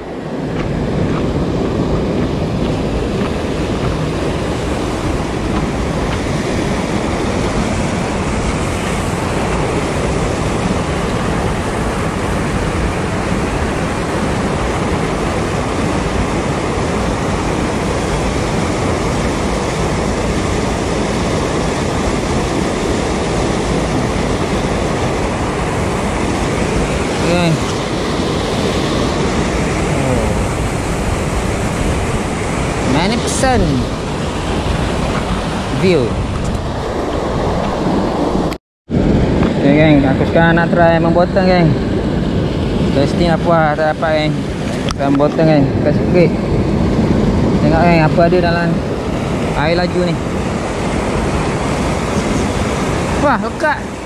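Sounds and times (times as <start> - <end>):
white water rushing: 0.0 - 54.0.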